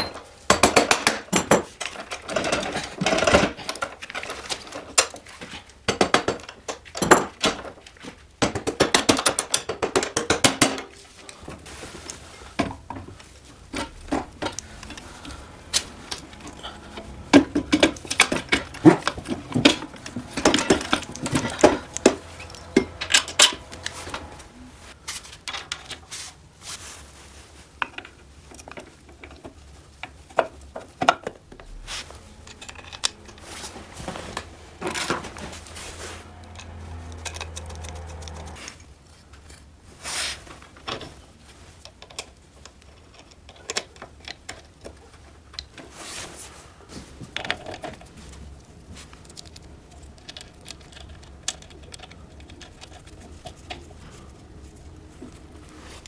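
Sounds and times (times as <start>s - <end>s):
metal parts and tools clinking: 0.0s - 11.4s, 12.0s - 26.0s, 28.0s - 39.8s, 47.1s - 56.0s.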